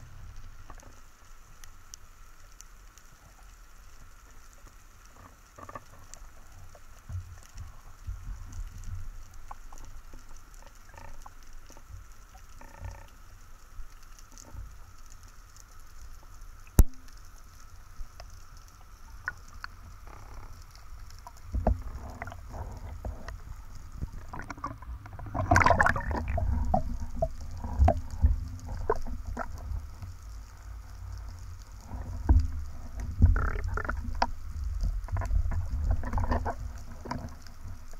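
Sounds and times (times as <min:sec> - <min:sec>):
low underwater rumble: 0:00.0 - 0:02.3, 0:03.1 - 0:37.9
underwater bubbling: 0:00.0 - 0:37.9.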